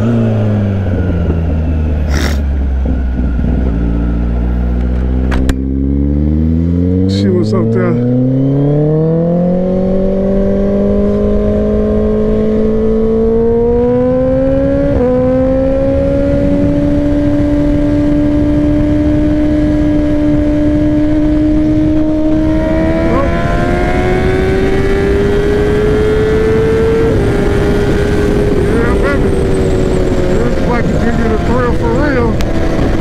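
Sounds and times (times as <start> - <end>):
wind rush on microphone: 0.0 - 5.6, 9.4 - 33.0
motorcycle engine running: 0.0 - 33.0.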